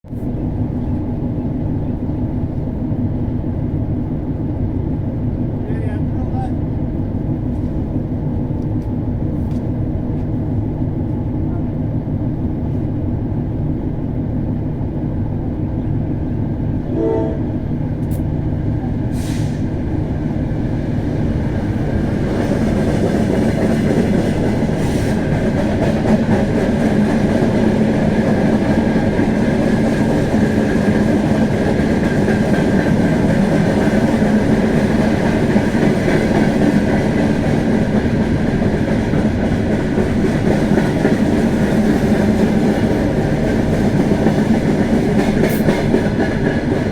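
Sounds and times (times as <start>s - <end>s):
rail and wheel noise: 0.0s - 46.9s
diesel locomotive running: 0.1s - 46.9s.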